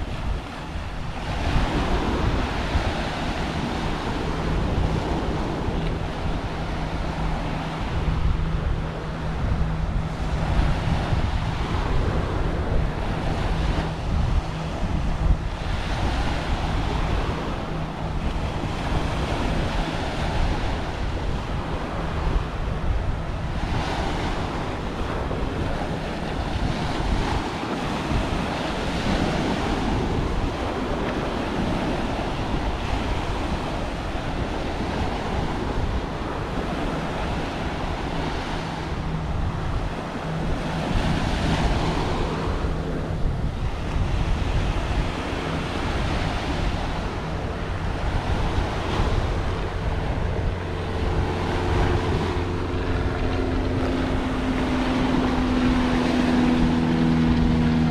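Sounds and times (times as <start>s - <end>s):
small waves breaking on beach: 0.0s - 57.9s
wind buffeting microphone: 0.0s - 57.9s.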